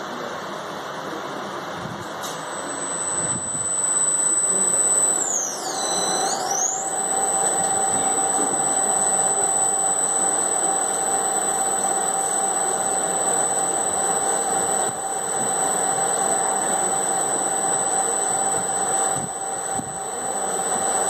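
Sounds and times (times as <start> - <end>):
mid-pitched hum: 0.0 - 21.0
washing machine whirring: 0.0 - 21.0
high whine: 1.2 - 21.0.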